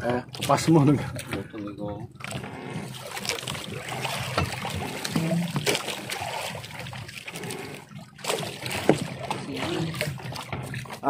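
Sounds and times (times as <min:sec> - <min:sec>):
knocks against hull: 0:00.0 - 0:06.1, 0:08.2 - 0:11.0.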